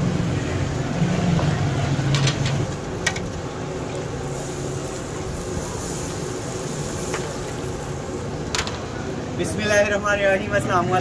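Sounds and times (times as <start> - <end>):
batter sizzling in hot oil: 0.0 - 9.6.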